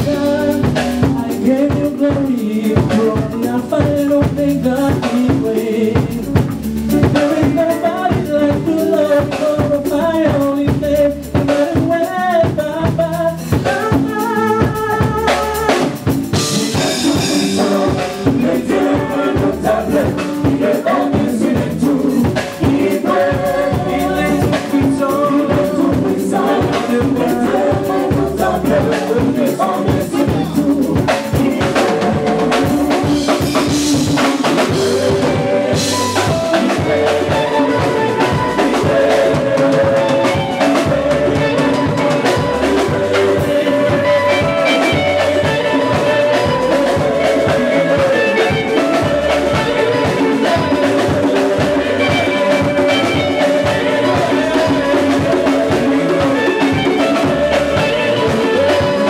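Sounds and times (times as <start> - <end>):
drum kit: 0.0 - 59.0
electric guitar: 0.0 - 59.0
group of voices singing: 0.0 - 59.0
hand drum percussion: 0.0 - 59.0
keyboard: 0.0 - 59.0.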